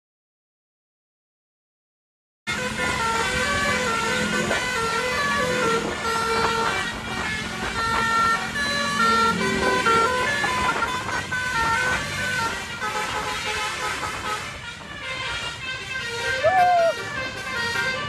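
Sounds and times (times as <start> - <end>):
musical air horn melody: 2.5 - 18.0.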